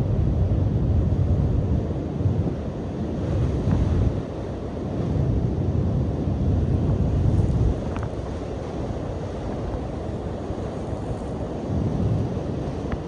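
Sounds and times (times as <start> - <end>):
surf washing on shore: 0.0 - 13.0
wind buffeting microphone: 0.0 - 13.0.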